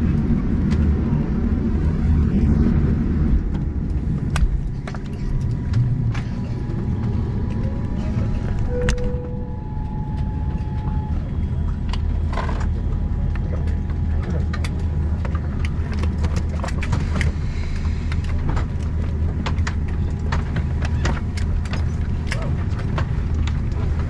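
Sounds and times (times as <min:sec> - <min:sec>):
airliner cabin hum: 0:00.0 - 0:24.0.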